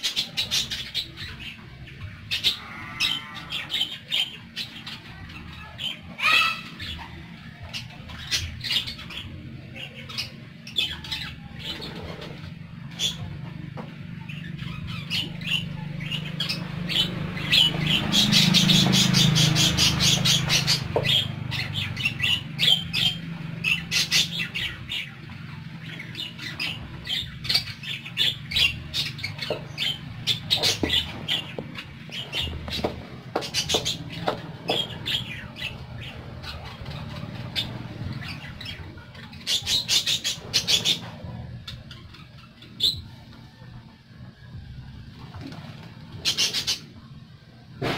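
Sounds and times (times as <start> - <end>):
budgerigars chirping and squawking: 0.0 - 43.8, 46.0 - 47.1.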